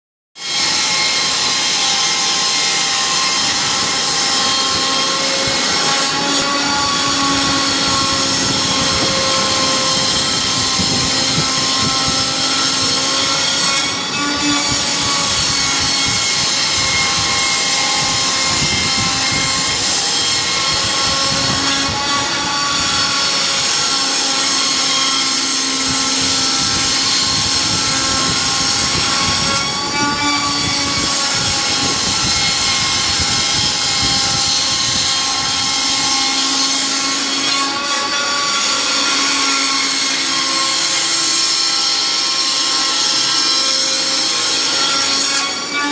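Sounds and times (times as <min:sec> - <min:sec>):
router spindle whine: 0:00.4 - 0:45.9.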